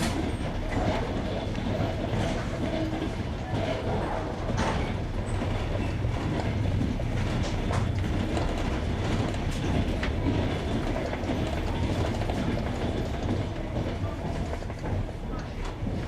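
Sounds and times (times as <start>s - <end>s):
train wheels rumbling: 0.0s - 16.0s
wheels clacking on rail joints: 0.0s - 16.0s.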